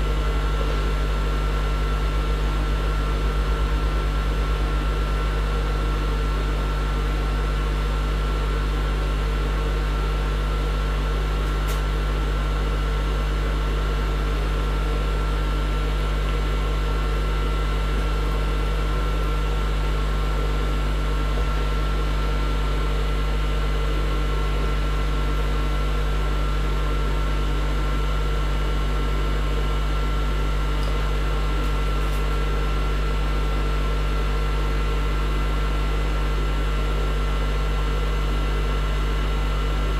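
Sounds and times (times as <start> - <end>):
deep mechanical hum: 0.0 - 39.9.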